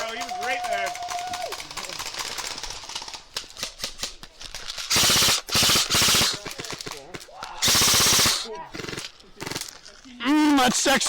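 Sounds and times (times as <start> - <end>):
airsoft gun rapid bursts: 0.0 - 11.0
airsoft gun clicks: 0.2 - 10.0.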